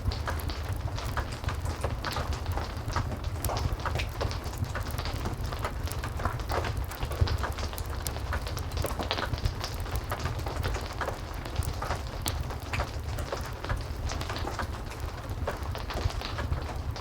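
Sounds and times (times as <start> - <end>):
heavy rain falling: 0.0 - 17.0
wood fire crackling: 0.0 - 17.0.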